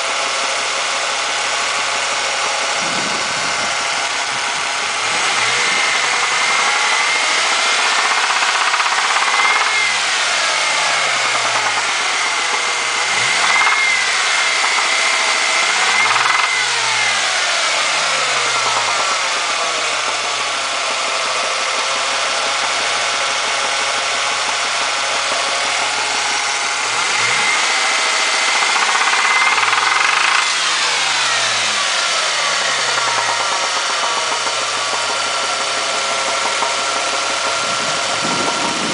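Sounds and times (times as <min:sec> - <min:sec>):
car engine idling and revving: 0:00.0 - 0:38.9
engine knocking: 0:00.0 - 0:38.9.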